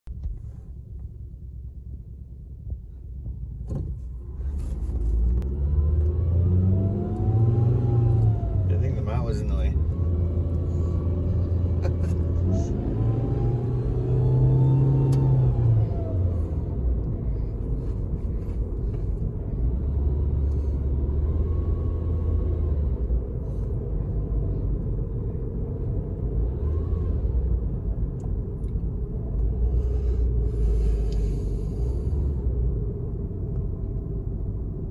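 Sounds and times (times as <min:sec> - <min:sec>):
car engine rumbling: 0:00.0 - 0:34.9.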